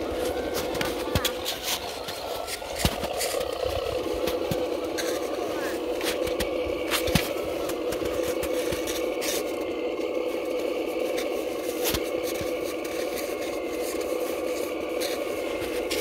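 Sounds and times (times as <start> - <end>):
toy truck drivetrain whine: 0.0 - 16.0.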